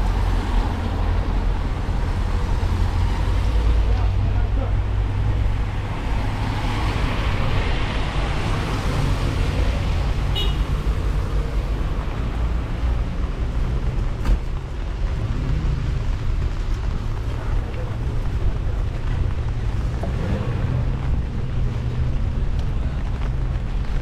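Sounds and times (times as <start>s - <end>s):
low traffic rumble: 0.0s - 24.0s
vehicle passing on wet road: 0.0s - 24.0s.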